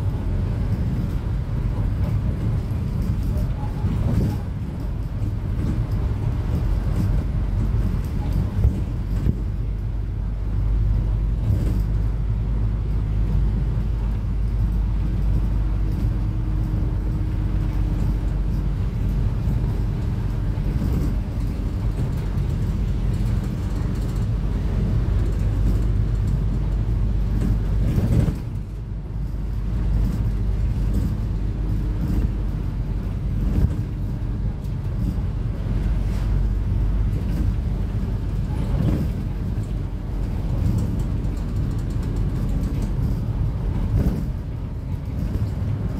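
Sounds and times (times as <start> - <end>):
bus diesel engine droning: 0.0 - 45.9
faint engine whine: 0.0 - 45.9.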